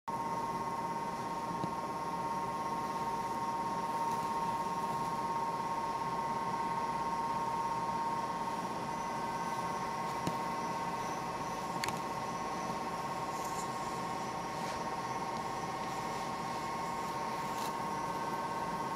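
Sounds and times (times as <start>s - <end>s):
high-pitched hum: 0.1s - 18.9s.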